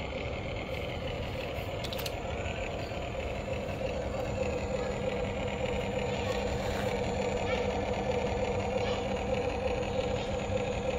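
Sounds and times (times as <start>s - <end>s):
toy excavator mechanical hum: 0.0s - 10.9s.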